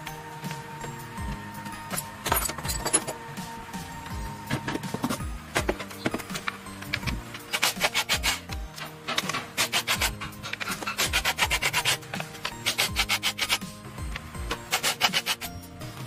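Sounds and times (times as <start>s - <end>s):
background music with low beat: 0.0s - 16.0s.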